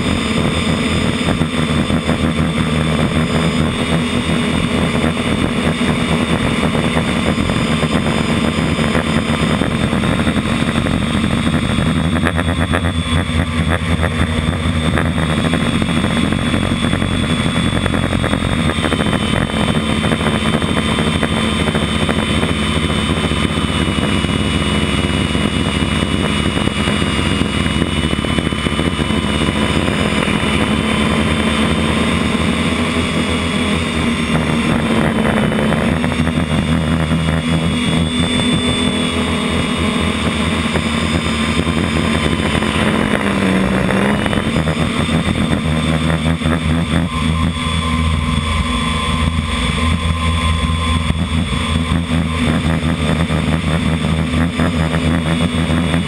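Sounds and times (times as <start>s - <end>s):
model aircraft motor whine: 0.0s - 56.0s
rushing air noise: 0.0s - 56.0s.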